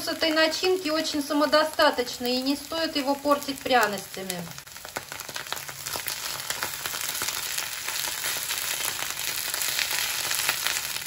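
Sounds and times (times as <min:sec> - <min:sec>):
mushrooms and onion sizzling in pan: 0:00.0 - 0:11.0.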